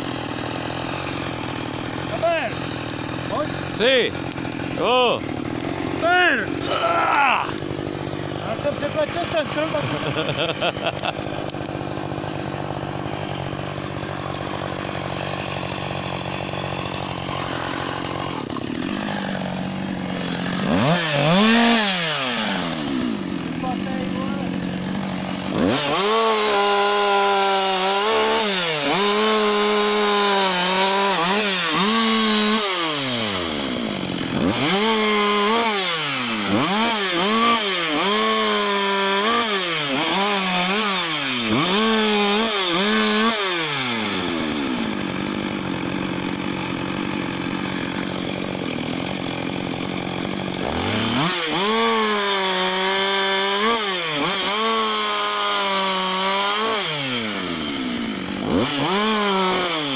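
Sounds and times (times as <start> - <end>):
chainsaw cutting wood: 0.0 - 59.9
chainsaw idling: 0.0 - 59.9.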